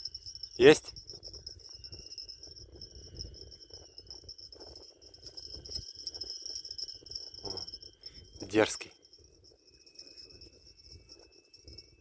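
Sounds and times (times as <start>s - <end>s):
insects chirring: 0.0s - 12.0s
wind rumble on microphone: 0.0s - 12.0s.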